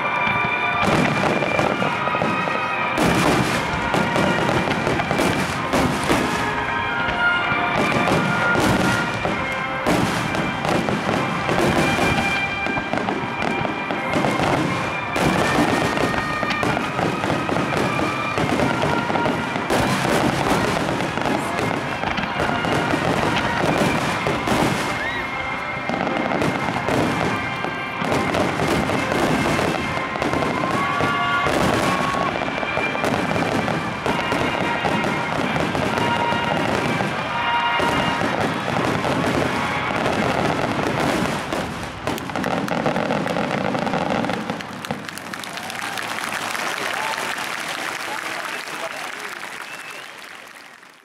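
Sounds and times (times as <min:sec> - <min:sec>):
music: 0:00.0 - 0:41.7
fireworks booming and crackling: 0:00.0 - 0:50.7.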